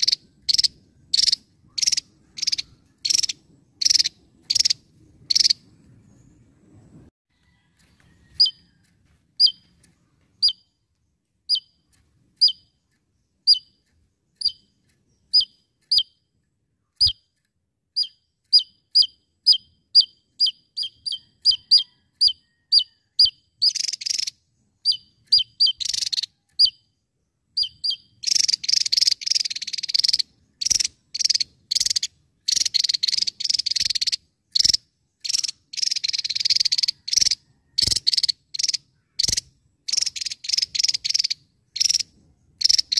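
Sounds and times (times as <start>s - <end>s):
harsh buzzy bird calls: 0.0s - 6.4s, 9.4s - 42.9s.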